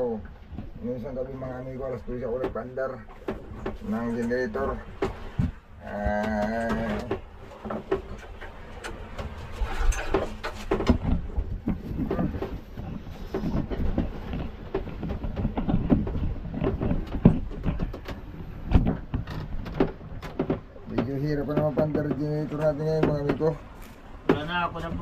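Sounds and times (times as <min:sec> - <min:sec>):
clanking and knocking: 0:02.2 - 0:23.6.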